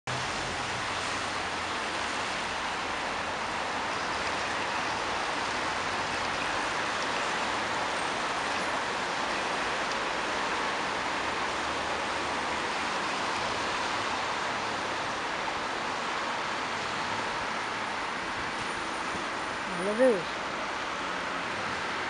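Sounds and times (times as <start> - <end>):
cars driving on wet street: 0.1 - 22.0.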